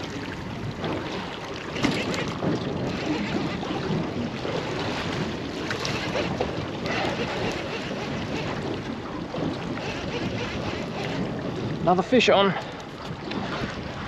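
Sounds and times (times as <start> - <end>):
water noise: 0.0 - 14.0
wind on microphone: 0.0 - 14.0.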